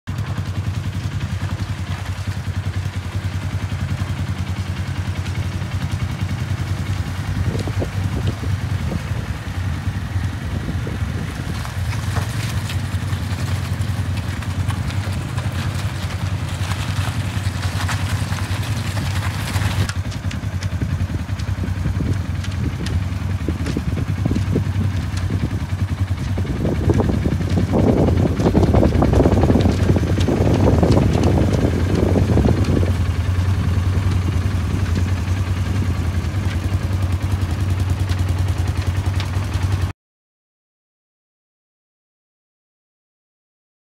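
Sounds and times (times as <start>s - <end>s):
utility vehicle engine running: 0.1s - 39.9s.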